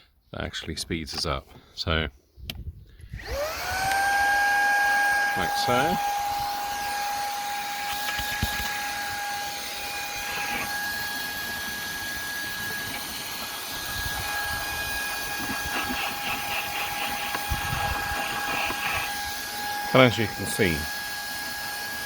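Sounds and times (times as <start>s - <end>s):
stick vacuum running: 3.2s - 22.0s.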